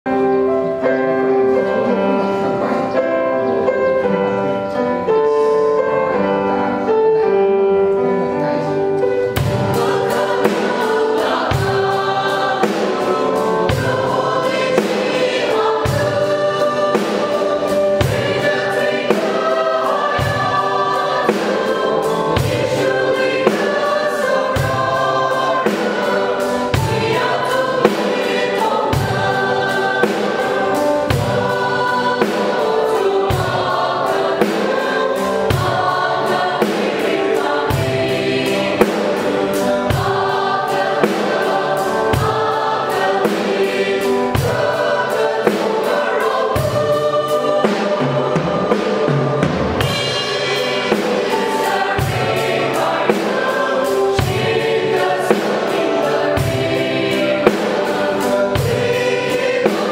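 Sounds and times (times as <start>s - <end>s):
choir singing a hymn: 0.1s - 59.9s
drum kit beat: 9.4s - 59.9s.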